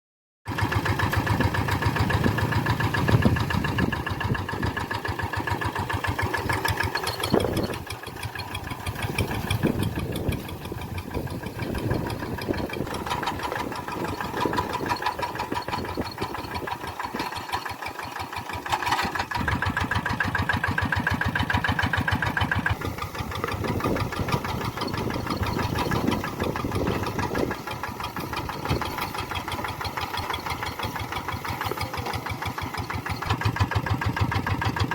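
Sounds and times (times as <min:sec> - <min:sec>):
tractor engine running: 0:00.5 - 0:34.9.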